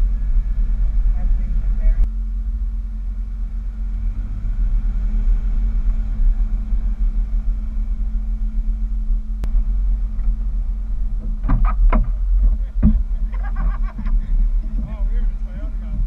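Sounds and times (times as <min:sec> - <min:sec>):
pickup truck engine rumbling: 0:00.0 - 0:16.0.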